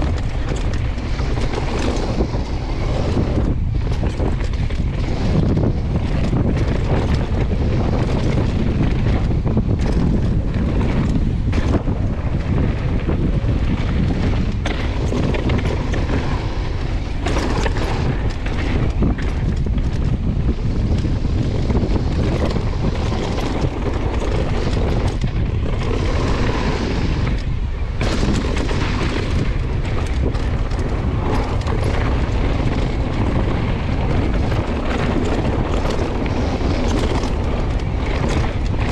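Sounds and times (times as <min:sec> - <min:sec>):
mountain bike rattle and tyre noise: 0:00.0 - 0:38.9
wind buffeting microphone: 0:00.0 - 0:38.9.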